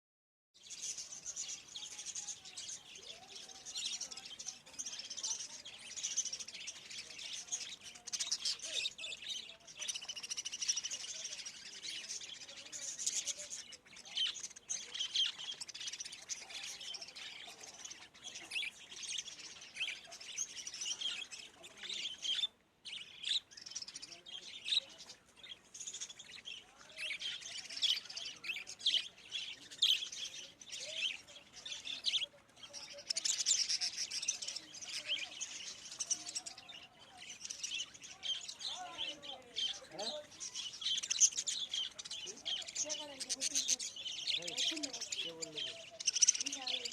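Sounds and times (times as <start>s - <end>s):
small birds chirping: 0.6s - 46.9s.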